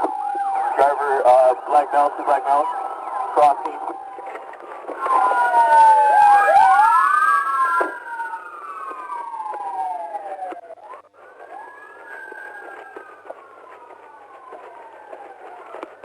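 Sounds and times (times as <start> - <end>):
police sirens wailing: 0.0 - 16.0.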